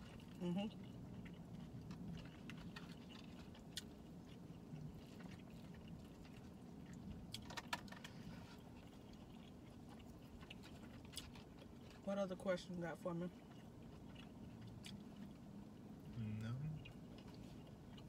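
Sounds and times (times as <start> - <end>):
faint chewing: 0.0 - 18.0
low steady hum: 0.0 - 18.0.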